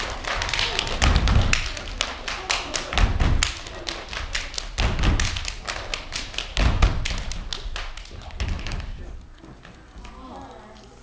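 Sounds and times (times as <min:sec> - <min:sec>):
heavy stomps: 0:00.0 - 0:10.2
shoes tapping on stage floor: 0:00.0 - 0:10.3.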